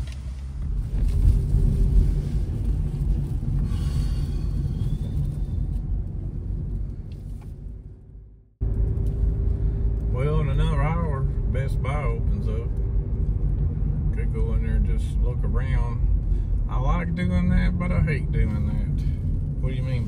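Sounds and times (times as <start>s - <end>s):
car driving rumble inside cabin: 0.0s - 20.0s.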